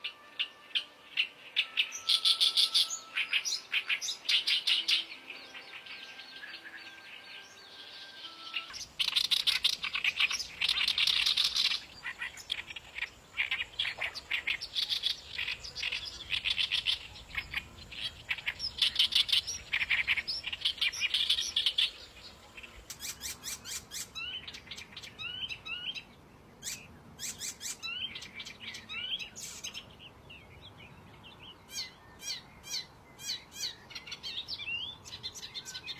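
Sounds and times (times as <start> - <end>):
reed warbler singing: 0.5 - 35.9.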